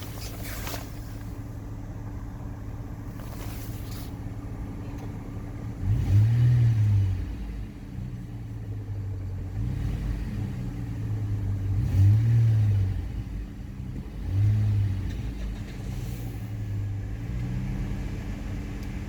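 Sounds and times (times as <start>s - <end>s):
car engine revving from idle: 0.0s - 19.0s.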